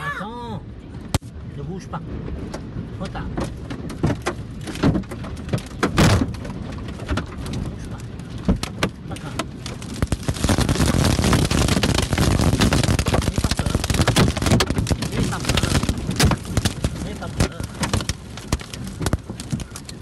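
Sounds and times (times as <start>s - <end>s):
wind rushing around car: 0.0s - 20.0s
rain and debris pelting car: 0.6s - 20.0s.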